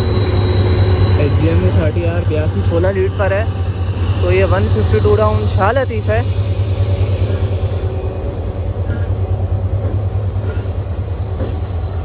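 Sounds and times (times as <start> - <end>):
locomotive low throbbing hum: 0.0 - 12.0
thin high whine: 0.0 - 12.0.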